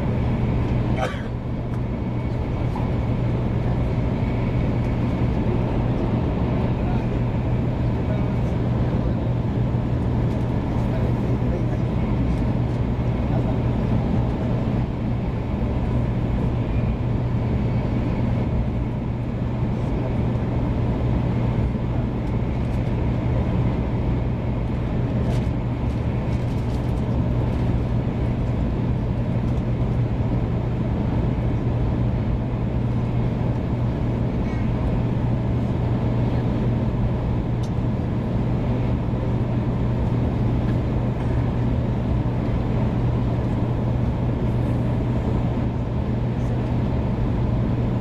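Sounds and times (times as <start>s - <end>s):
train cabin rumble and hiss: 0.0s - 48.0s.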